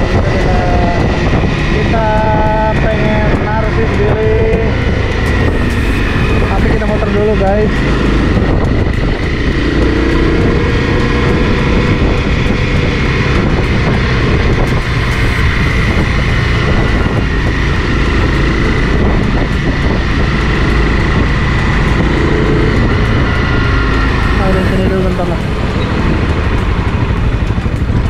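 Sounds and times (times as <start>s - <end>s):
motorcycle engine cruising: 0.0s - 28.0s
steady high whine: 0.0s - 28.0s
wind rumble on microphone: 0.0s - 28.0s.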